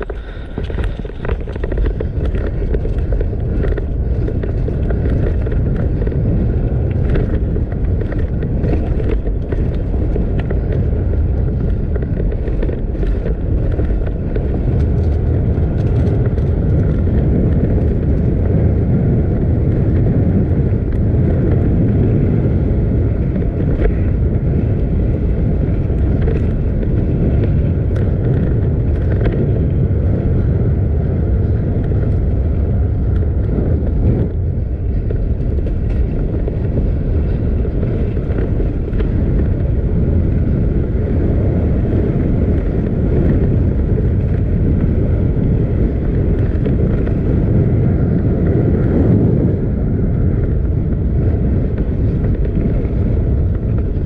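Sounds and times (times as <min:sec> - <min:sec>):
bike knocks and rattles: 0:00.0 - 0:49.2, 0:49.9 - 0:54.0
mountain bike tyre rumble: 0:00.0 - 0:54.0
wind on microphone: 0:00.0 - 0:54.0.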